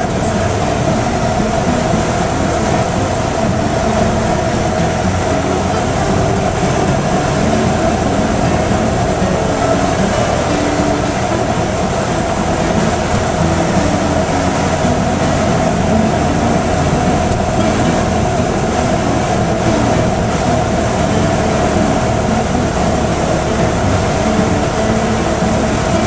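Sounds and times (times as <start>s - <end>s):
airflow rush: 0.0s - 26.0s
light aircraft engine drone: 0.0s - 26.0s.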